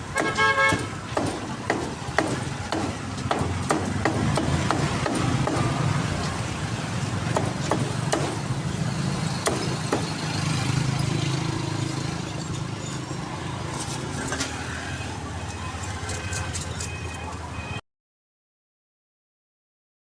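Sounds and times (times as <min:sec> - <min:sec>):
traffic engine hum: 0:00.0 - 0:17.5.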